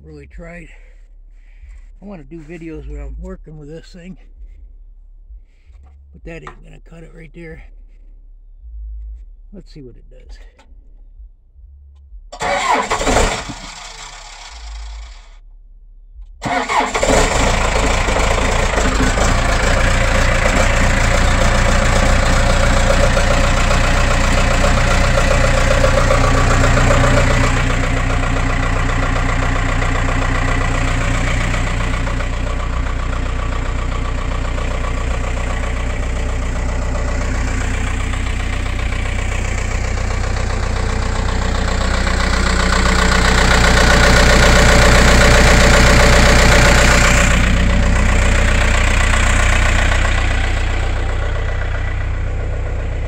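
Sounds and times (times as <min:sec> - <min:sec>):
diesel engine starting: 0:00.0 - 0:11.6, 0:12.3 - 0:53.0
diesel engine idling: 0:00.0 - 0:53.0.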